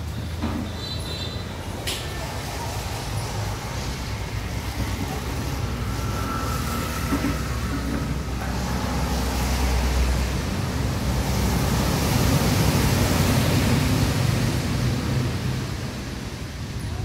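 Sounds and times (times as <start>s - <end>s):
truck passing on wet road: 1.4s - 16.9s.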